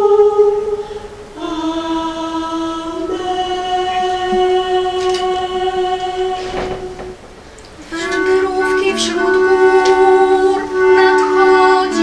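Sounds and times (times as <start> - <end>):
choir holding sustained notes: 0.0 - 12.0.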